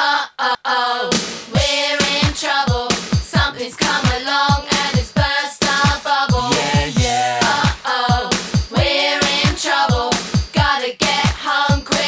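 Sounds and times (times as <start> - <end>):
kick drum beat: 1.1 - 12.0
pop melody: 1.6 - 12.0.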